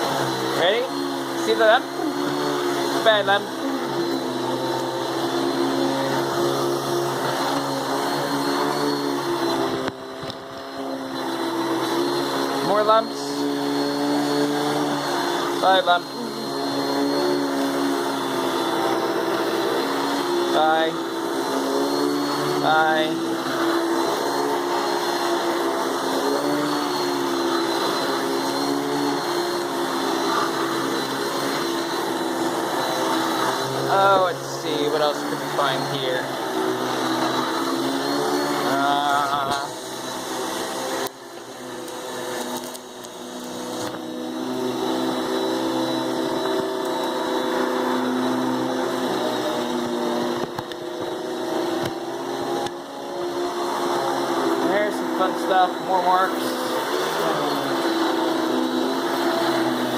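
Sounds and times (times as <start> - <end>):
vacuum cleaner motor hum: 0.0 - 59.9.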